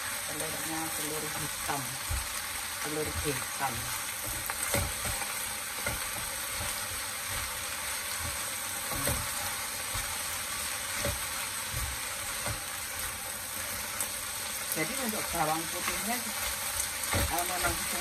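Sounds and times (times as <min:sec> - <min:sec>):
spinach sizzling in a frying pan: 0:00.0 - 0:18.0.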